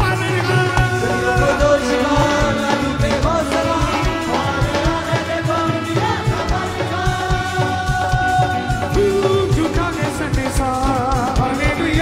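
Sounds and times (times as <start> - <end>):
worship song with drum beat: 0.0 - 12.0.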